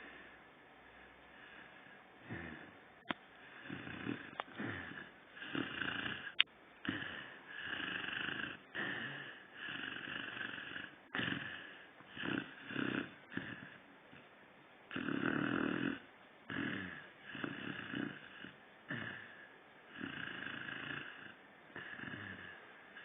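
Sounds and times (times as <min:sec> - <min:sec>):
dog snoring: 0:01.0 - 0:14.3, 0:14.9 - 0:23.0.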